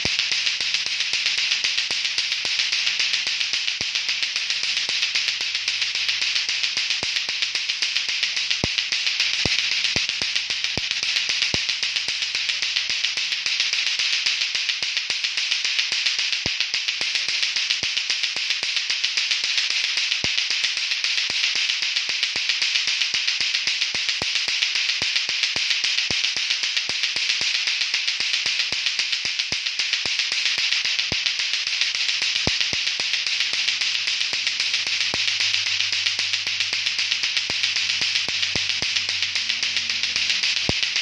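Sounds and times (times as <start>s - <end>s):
clacker toy balls clacking: 0.0s - 41.0s.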